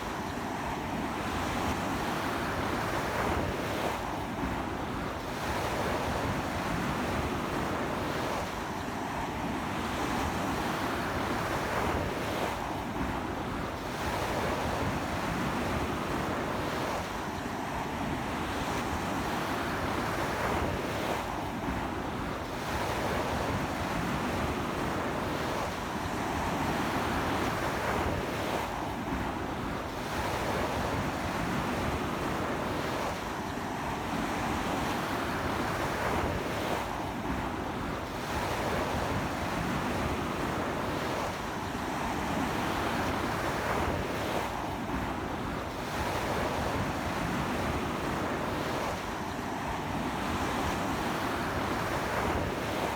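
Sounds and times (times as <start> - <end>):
ocean surf breaking on beach: 0.0 - 52.9
strong sea wind: 0.0 - 52.9.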